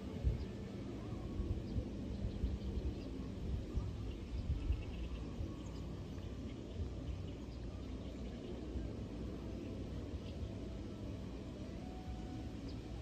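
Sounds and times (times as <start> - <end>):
wind gusting over microphone: 0.0 - 11.5
faint bird chirps: 0.2 - 13.0.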